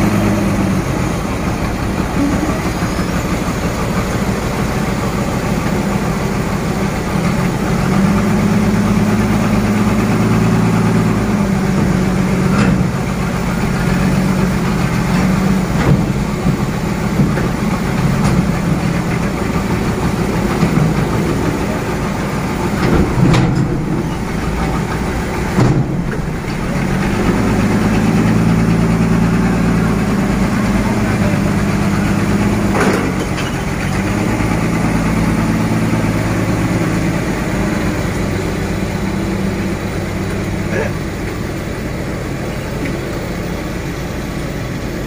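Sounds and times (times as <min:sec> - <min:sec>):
deep engine note: 0:00.0 - 0:44.3
engines running: 0:00.0 - 0:45.0.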